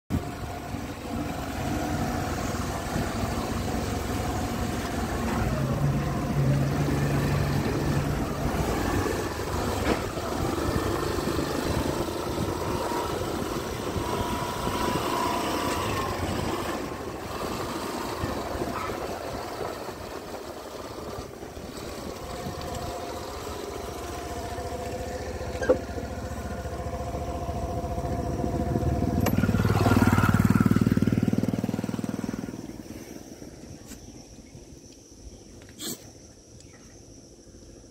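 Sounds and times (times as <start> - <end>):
scooter engine running: 0.1 - 33.7.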